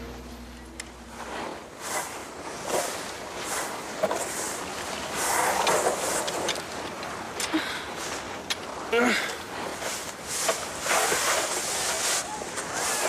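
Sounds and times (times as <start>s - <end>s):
skis sliding over snow: 1.0s - 13.0s.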